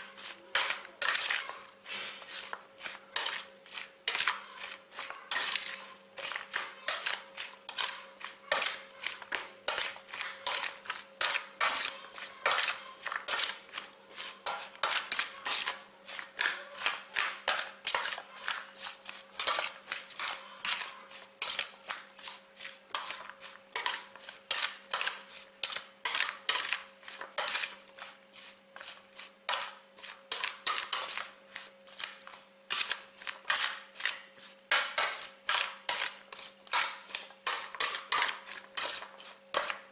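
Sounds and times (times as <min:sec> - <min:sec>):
metal spoon scraping baking tray: 0:00.0 - 0:39.9.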